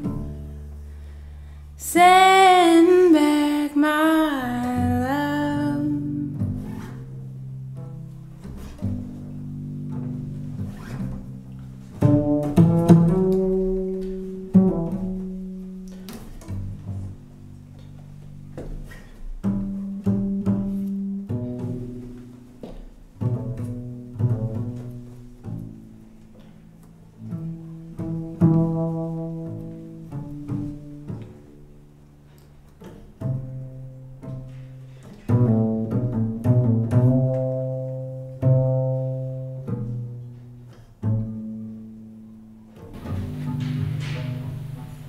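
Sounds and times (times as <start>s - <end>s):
plucked double bass: 0.0s - 45.0s.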